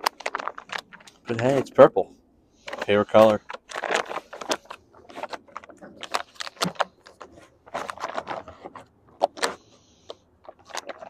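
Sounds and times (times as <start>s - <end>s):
handling clicks taps and rustles: 0.0s - 2.0s, 2.6s - 11.0s.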